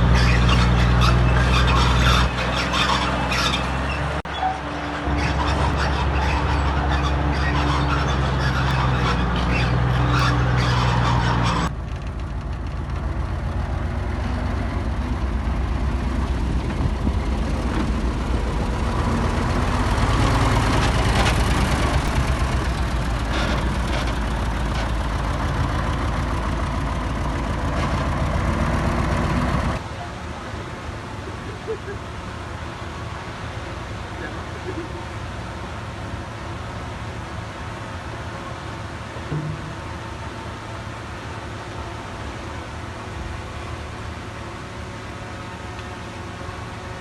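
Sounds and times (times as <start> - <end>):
heavy diesel engine running: 0.0 - 47.0
rough engine noise: 0.0 - 47.0.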